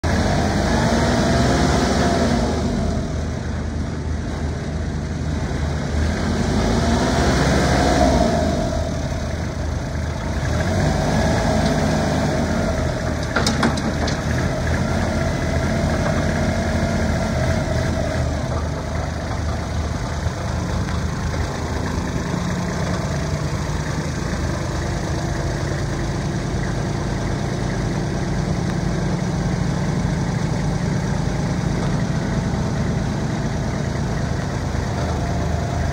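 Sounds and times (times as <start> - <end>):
tractor diesel engine: 0.0 - 35.9.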